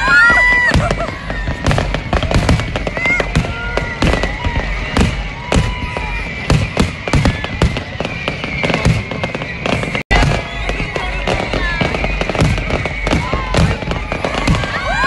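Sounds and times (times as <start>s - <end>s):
fireworks bangs and crackling: 0.0s - 15.0s
fireworks whistles: 0.0s - 15.0s
steady high whistle-like tone: 0.0s - 15.0s.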